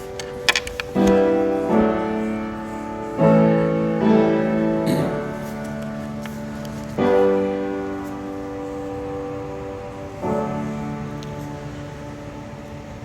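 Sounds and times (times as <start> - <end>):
keyboard playing slow chords: 0.0 - 13.0.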